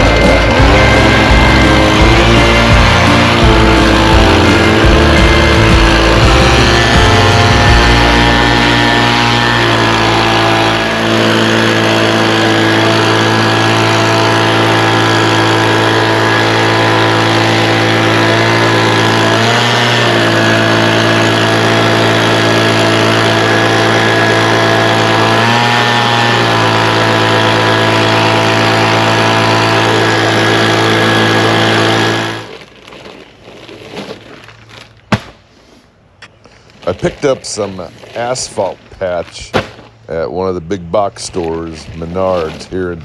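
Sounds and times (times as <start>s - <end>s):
tractor engine running: 0.0s - 32.6s, 36.0s - 43.0s.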